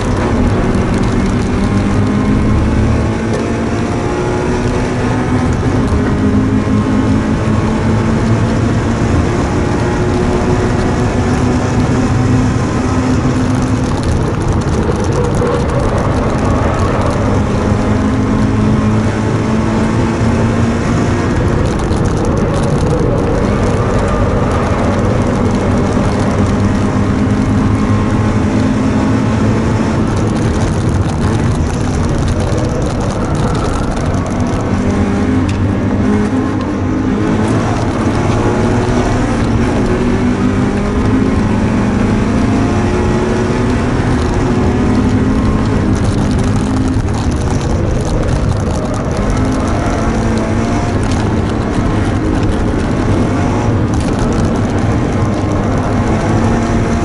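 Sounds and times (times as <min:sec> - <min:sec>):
car engine revving: 0:00.0 - 0:57.0
tyre and road noise: 0:00.0 - 0:57.0.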